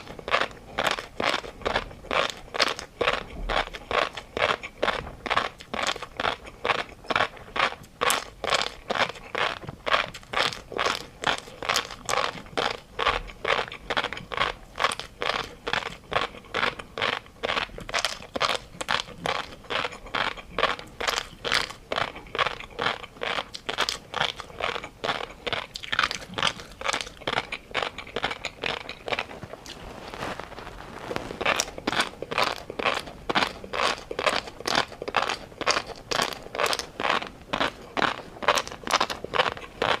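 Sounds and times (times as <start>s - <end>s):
chewing crunchy food: 0.0s - 40.0s.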